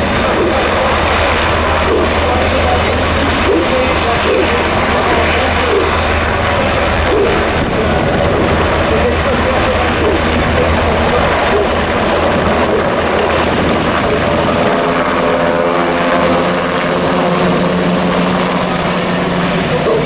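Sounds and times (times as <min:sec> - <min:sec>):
helicopter flying by: 0:00.0 - 0:20.0
helicopter rotors and engines: 0:00.0 - 0:20.0.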